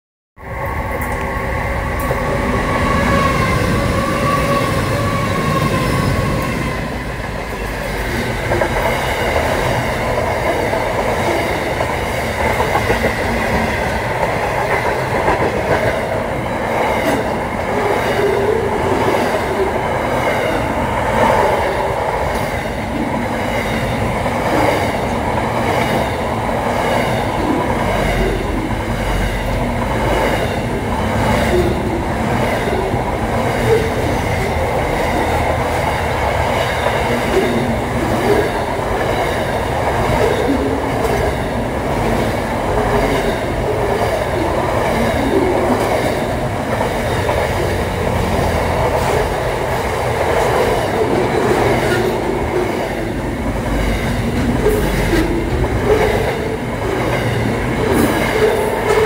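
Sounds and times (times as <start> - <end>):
freight train rumble: 0.4 - 59.0.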